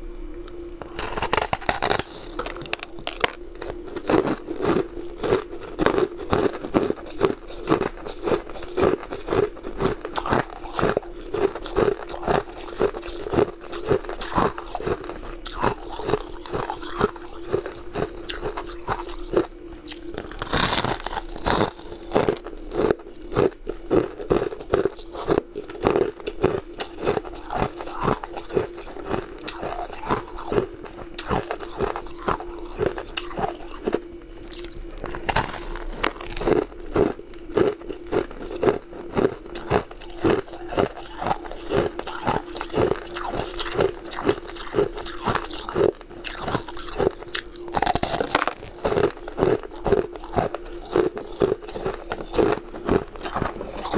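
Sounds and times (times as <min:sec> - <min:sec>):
steady hum: 0:00.0 - 0:53.9
crunching frozen ice: 0:00.6 - 0:53.9.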